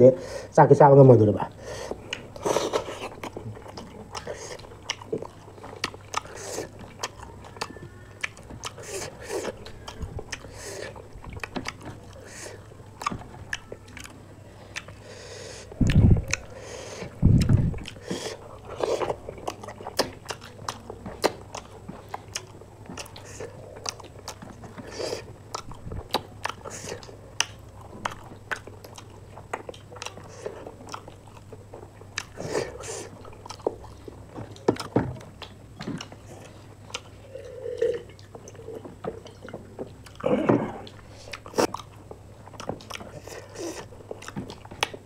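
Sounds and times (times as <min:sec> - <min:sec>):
people chewing and crunching: 0:01.4 - 0:45.0.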